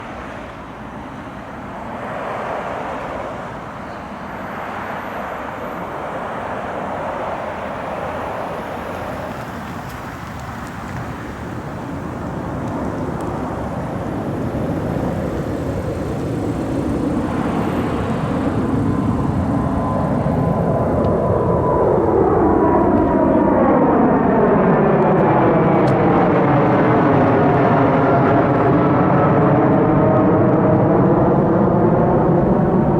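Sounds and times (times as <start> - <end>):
jet engines at takeoff: 0.0 - 32.9.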